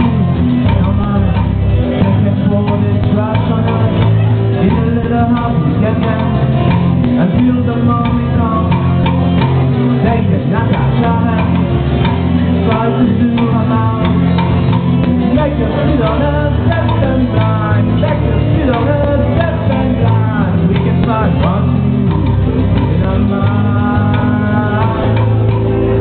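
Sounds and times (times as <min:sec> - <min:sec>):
bass guitar: 0:00.0 - 0:26.0
drum kit: 0:00.0 - 0:26.0
electric guitars: 0:00.0 - 0:26.0.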